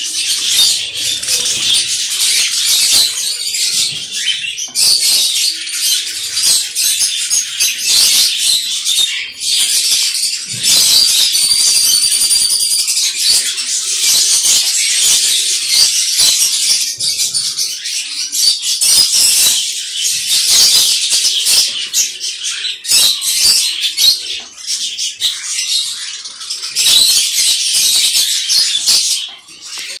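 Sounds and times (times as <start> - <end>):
parrots chattering and chirping: 0.0 - 30.0
whistled bird notes: 0.0 - 30.0.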